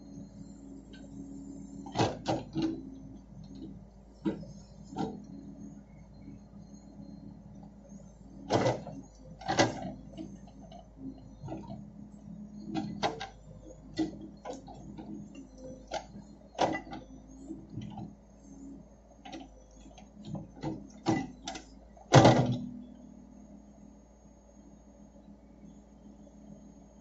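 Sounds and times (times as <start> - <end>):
diesel engine running: 0.0 - 24.4.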